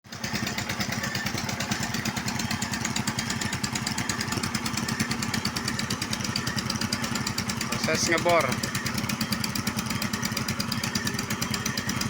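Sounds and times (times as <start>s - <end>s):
drilling rig motor running: 0.1s - 12.0s.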